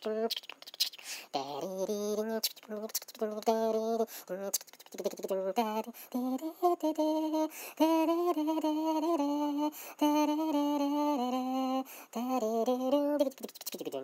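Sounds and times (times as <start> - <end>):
person humming a slow melody: 0.0 - 14.0.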